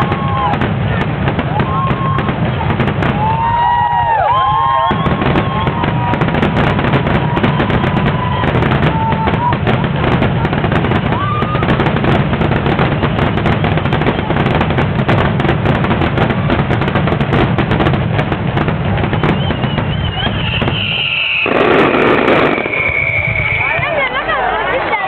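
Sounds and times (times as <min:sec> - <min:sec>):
fireworks whistling: 0:00.0 - 0:24.4
fireworks bursting and crackling: 0:00.0 - 0:25.0.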